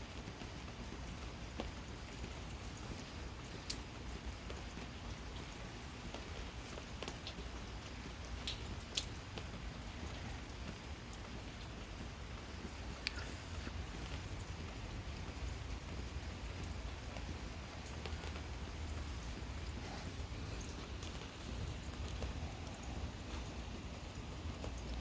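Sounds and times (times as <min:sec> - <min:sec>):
drips ticking on a surface: 0:00.0 - 0:25.0
gentle rain: 0:00.0 - 0:25.0.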